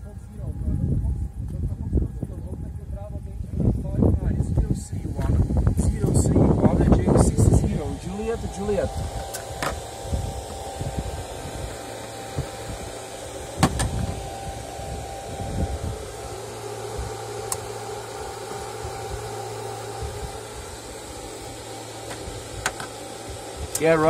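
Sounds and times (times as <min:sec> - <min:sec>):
cooling fans whirring: 0:00.0 - 0:24.0
low hum: 0:00.0 - 0:24.0.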